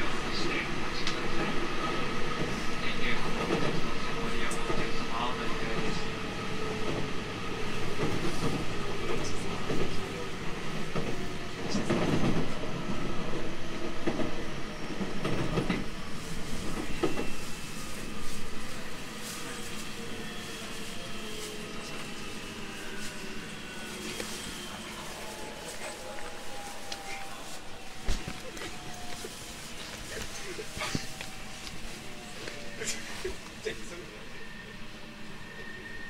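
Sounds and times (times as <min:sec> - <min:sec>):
train wheels rumbling on rails: 0:00.0 - 0:34.7.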